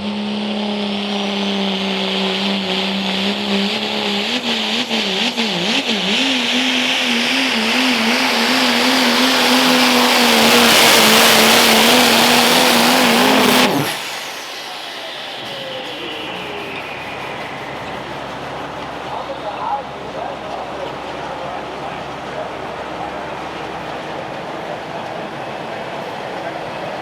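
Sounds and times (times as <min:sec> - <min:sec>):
diesel truck engine at full throttle: 0:00.0 - 0:27.0
turbo whine: 0:00.0 - 0:27.0.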